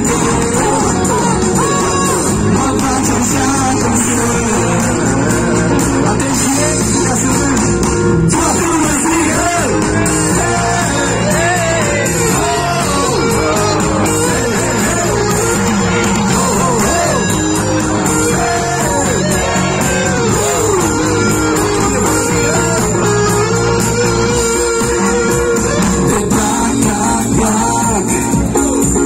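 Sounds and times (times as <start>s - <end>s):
live pop band playing: 0.0s - 29.0s
man singing: 0.0s - 29.0s.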